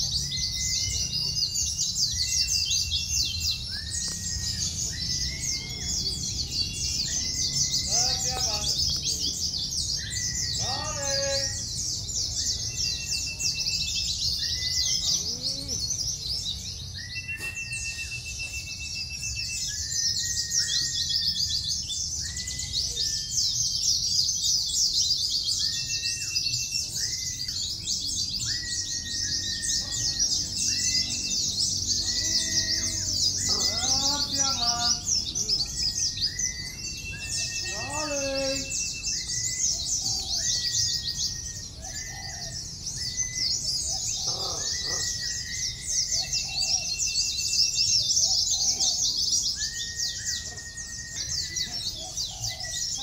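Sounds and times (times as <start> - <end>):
bird whistles and trills: 0.0 - 53.0
songbirds twittering: 0.0 - 53.0.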